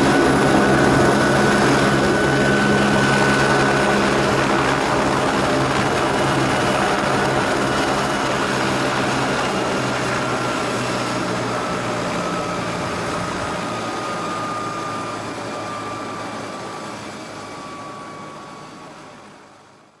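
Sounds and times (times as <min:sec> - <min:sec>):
engine drone: 0:00.0 - 0:17.6
thin whine gliding downward: 0:00.0 - 0:18.9.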